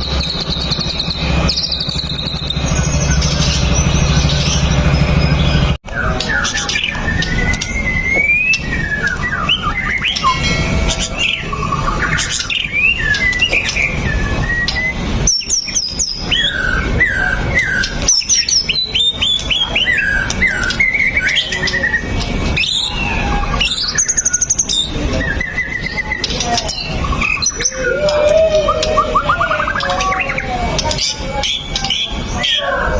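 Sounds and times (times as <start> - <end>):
bird singing whistles and trills: 0.0 - 32.9.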